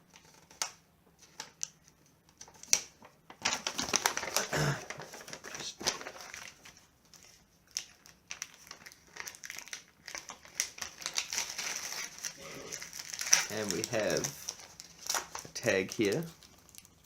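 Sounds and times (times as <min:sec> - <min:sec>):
paper rustling: 0:00.1 - 0:17.0.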